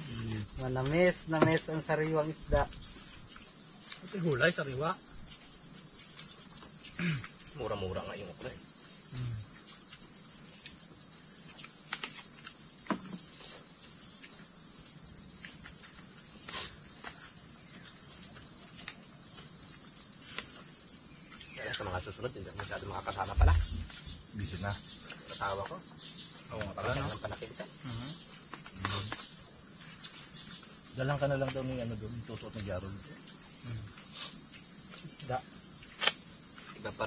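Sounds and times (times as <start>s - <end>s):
insect chorus pulsing buzz: 0.0s - 37.0s.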